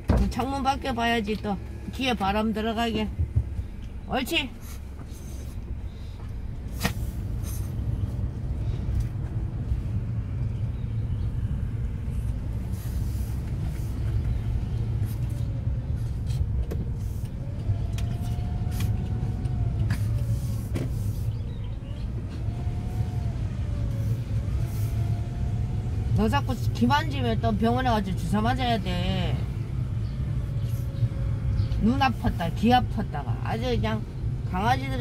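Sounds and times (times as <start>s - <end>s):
car road rumble: 0.0s - 35.0s.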